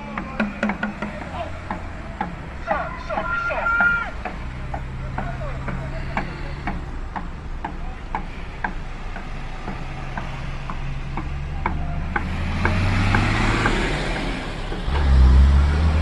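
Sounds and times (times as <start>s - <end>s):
vehicles driving slowly past: 0.0s - 16.0s.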